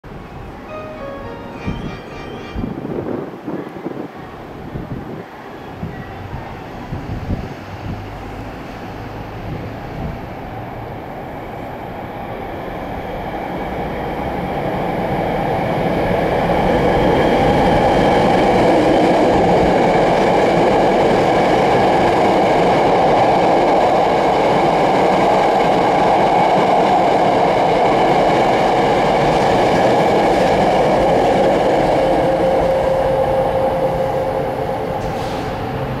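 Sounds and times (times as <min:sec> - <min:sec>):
high whine of train: 0:00.0 - 0:36.0
train wheels rumbling on rail: 0:01.6 - 0:36.0.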